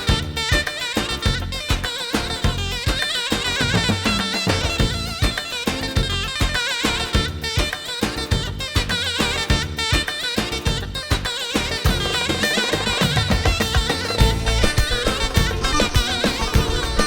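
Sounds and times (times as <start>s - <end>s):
reedy folk melody: 0.0s - 17.0s
steady drum beat: 0.0s - 17.0s.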